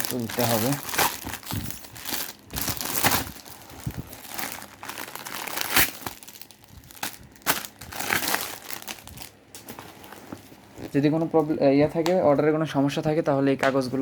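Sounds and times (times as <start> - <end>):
paper and packaging crinkling: 0.0 - 11.3.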